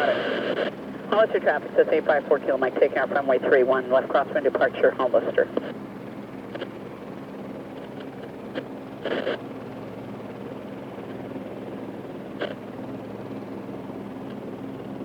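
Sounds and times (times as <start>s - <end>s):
helicopter turbine and rotor humming: 0.0s - 15.0s.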